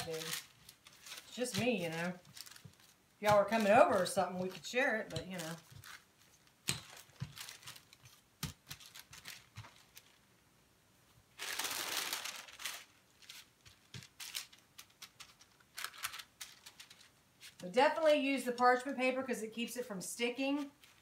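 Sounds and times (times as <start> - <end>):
parchment paper crinkling: 0.0 - 10.3, 11.4 - 19.0, 20.2 - 21.0.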